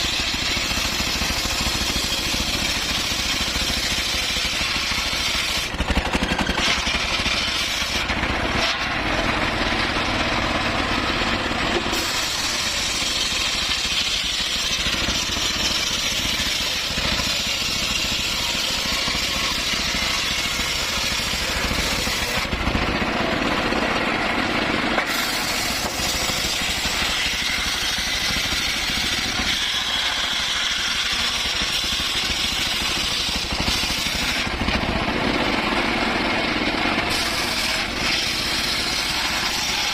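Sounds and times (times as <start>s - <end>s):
circular saw cutting wood: 0.0s - 39.9s.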